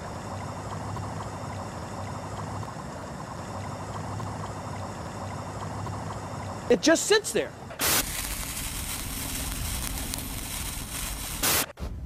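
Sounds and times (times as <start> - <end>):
low hum: 0.0 - 6.8, 7.4 - 12.0
water boiling and bubbling: 0.0 - 11.7.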